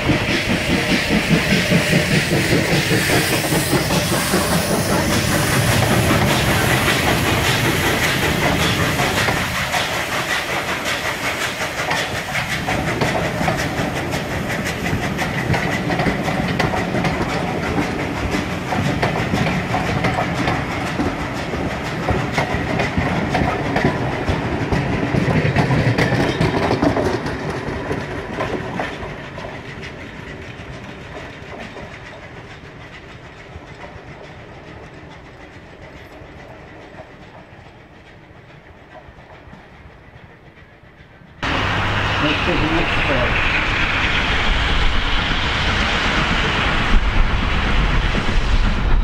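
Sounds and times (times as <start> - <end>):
train wheels clicking over rail joints: 0.0 - 49.0.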